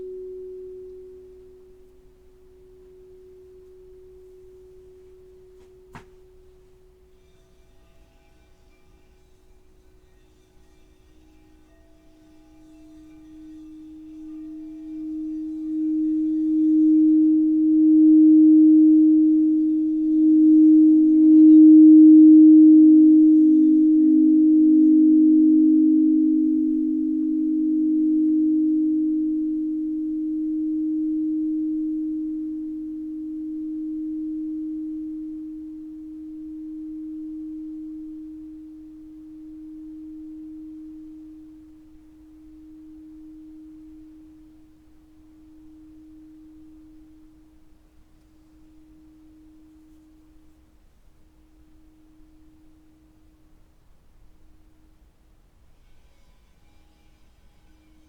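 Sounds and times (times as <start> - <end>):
singing bowl ringing: 0.0 - 50.6.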